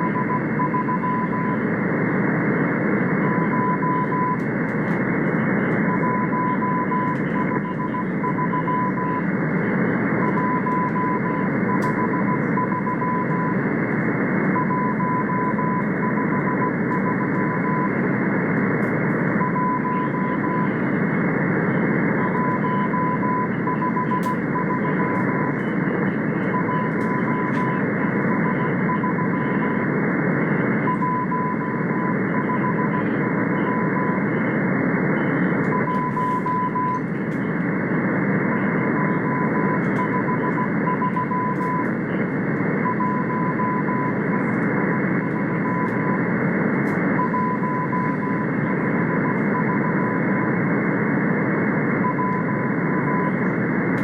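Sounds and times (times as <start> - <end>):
morse code tone: 0.0 - 1.7, 3.0 - 13.7, 14.4 - 18.2, 19.2 - 50.6, 51.9 - 53.6
radio hiss and static: 0.0 - 54.0.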